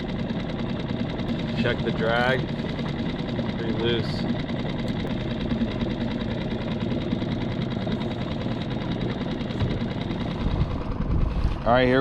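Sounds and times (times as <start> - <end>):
small outboard motor running: 0.0 - 12.0.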